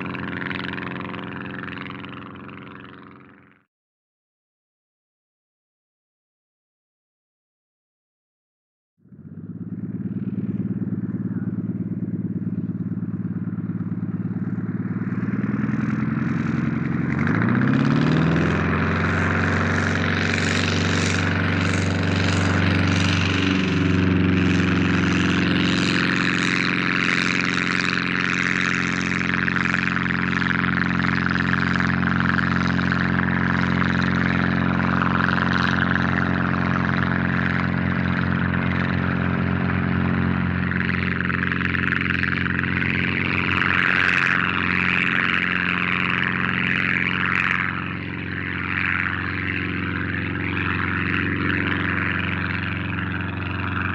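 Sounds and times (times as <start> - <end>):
propeller plane engine: 0.0 - 3.7, 9.0 - 53.9.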